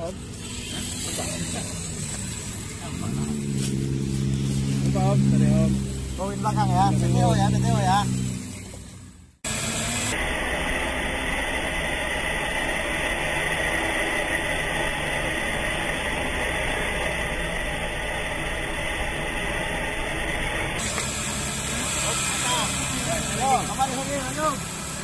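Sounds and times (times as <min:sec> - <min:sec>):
steady hissing noise: 0:00.0 - 0:25.0.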